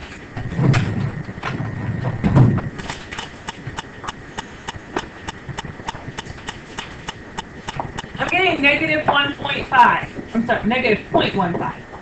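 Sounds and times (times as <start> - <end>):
dull low thumps: 0.3 - 10.3.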